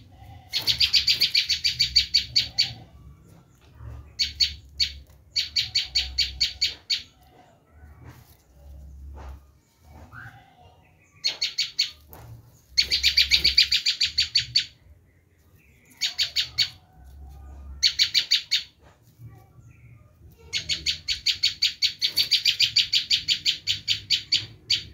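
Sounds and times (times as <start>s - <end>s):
bird alarm chatter: 0.0s - 17.0s, 17.8s - 24.9s.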